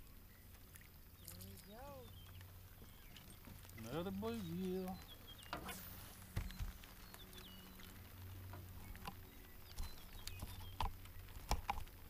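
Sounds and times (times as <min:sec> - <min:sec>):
faint rain patter: 0:00.0 - 0:12.0
low steady hum: 0:00.0 - 0:12.0.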